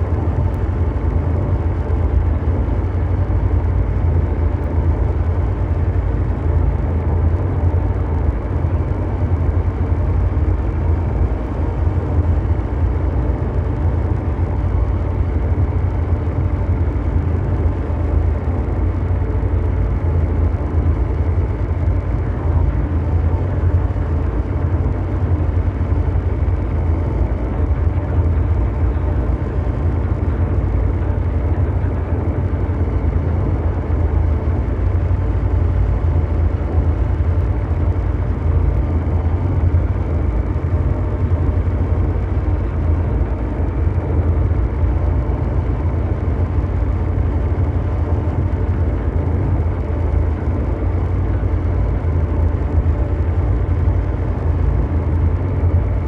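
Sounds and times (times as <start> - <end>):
deep mechanical rumbling drone: 0.0 - 56.0.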